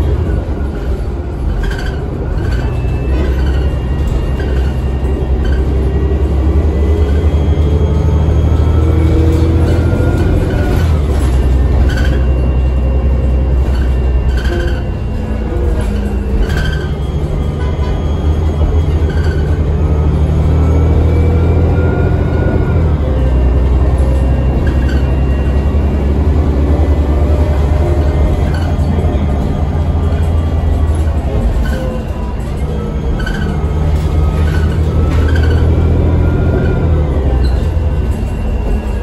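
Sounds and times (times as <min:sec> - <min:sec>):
bus diesel engine rumble: 0:00.0 - 0:39.0.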